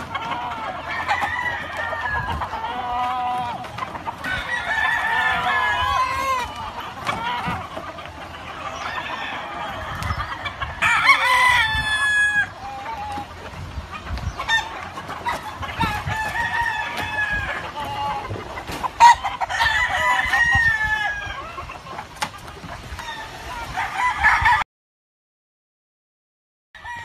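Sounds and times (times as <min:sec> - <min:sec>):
chickens clucking: 0:00.0 - 0:24.6, 0:26.8 - 0:27.0
roosters crowing: 0:00.0 - 0:24.6, 0:26.8 - 0:27.0.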